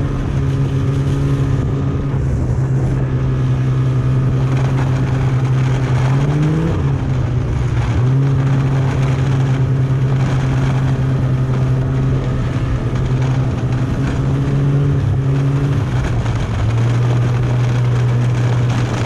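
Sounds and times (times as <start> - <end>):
rushing noise: 0.0 - 19.0
snowmobile engine running: 0.0 - 19.0.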